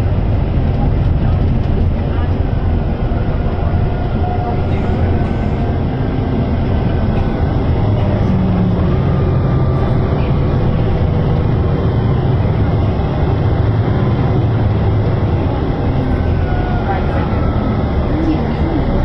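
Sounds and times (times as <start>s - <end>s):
bus diesel engine rumble: 0.0s - 19.0s
road noise: 0.0s - 19.0s.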